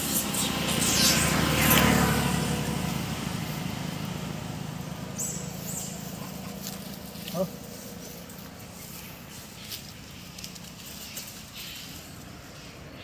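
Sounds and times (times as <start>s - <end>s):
tyre noise on road: 0.0s - 13.0s
vehicle engine hum: 0.0s - 13.0s.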